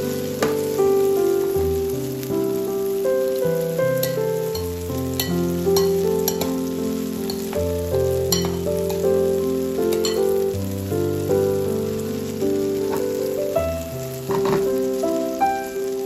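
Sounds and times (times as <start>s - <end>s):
background music: 0.0s - 16.0s
pancakes sizzling in oil: 0.0s - 16.0s.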